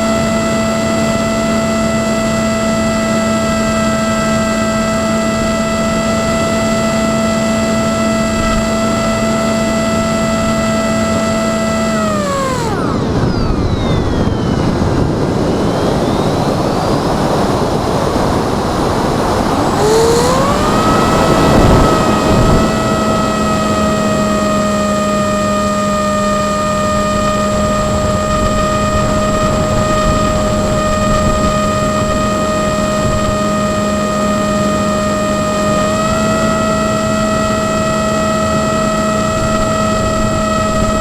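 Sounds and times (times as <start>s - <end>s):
model aircraft motor whine: 0.0s - 41.0s.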